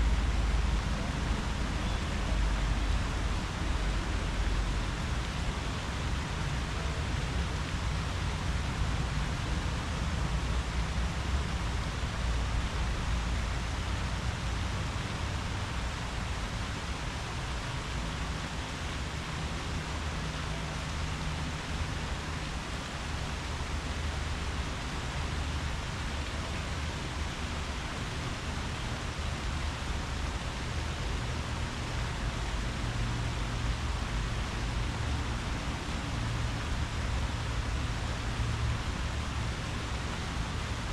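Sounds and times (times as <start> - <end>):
low uneven rumble: 0.0 - 40.9
wind rushing through leaves: 0.0 - 40.9.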